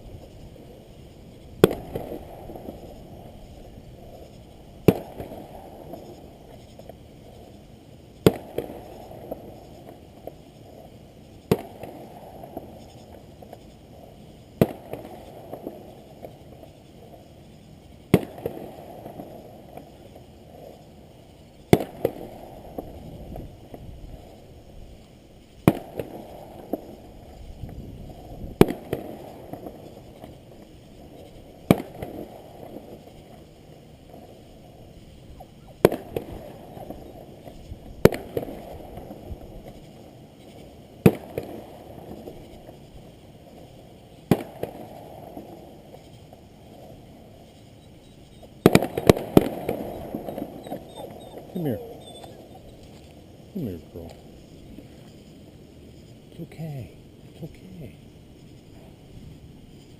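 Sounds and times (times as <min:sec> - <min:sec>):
fireworks booming overhead: 0:00.0 - 0:59.9.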